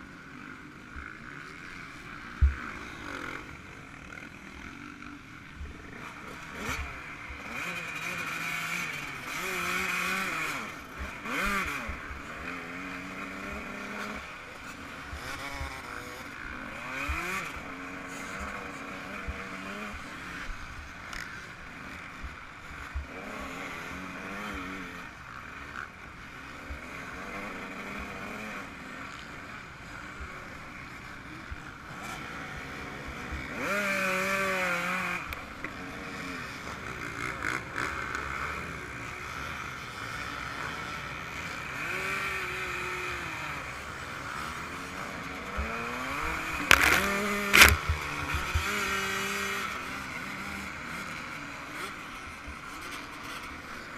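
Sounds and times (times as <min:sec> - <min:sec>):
two-stroke motorcycle engine revving: 0:00.1 - 0:53.9.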